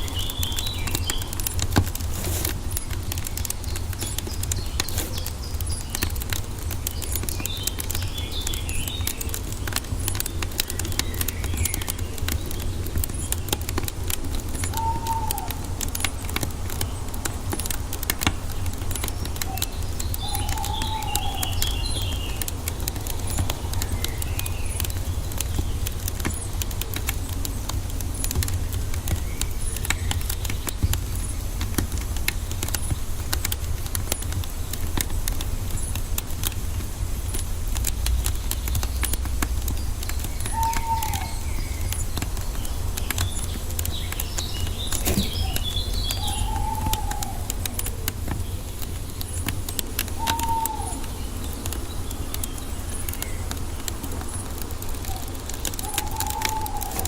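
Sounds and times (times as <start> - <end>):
birds chirping: 0.0 - 57.0
wood fire crackling: 0.0 - 57.0.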